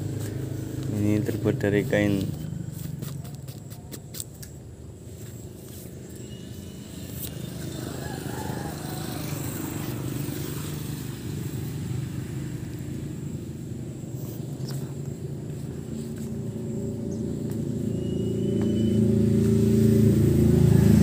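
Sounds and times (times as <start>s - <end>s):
motor engine rumbling: 0.0s - 21.0s.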